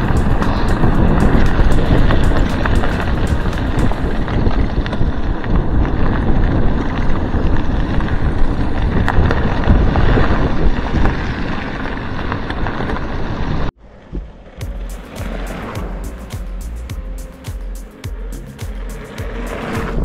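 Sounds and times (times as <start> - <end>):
bike tyres rolling on gravel: 0.0 - 16.2
wind buffeting microphone: 0.0 - 17.1.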